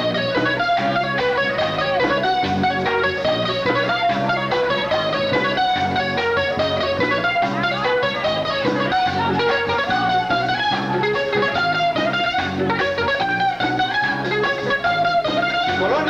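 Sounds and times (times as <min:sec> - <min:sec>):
lead guitar picking a melody: 0:00.0 - 0:16.0
rhythm accompaniment: 0:00.0 - 0:16.0
steady bass notes: 0:00.0 - 0:16.0.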